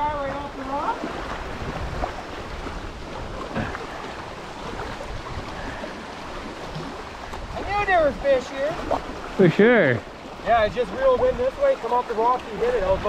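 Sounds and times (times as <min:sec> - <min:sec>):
wind buffeting microphone: 0:00.0 - 0:09.4, 0:10.0 - 0:13.0
water splashing against rocks: 0:00.0 - 0:13.0.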